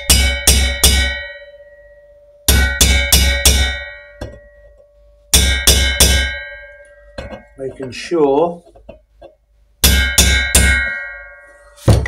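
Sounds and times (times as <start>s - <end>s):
hammer striking steel drift: 0.0s - 7.8s, 9.8s - 12.0s.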